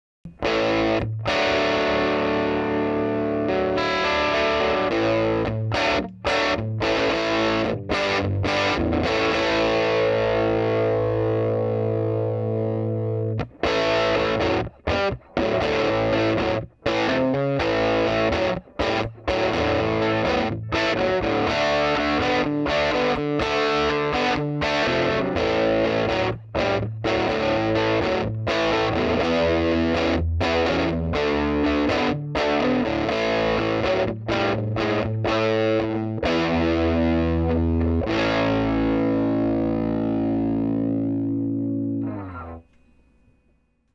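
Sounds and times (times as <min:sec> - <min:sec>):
distorted electric guitar: 0:00.3 - 0:43.4.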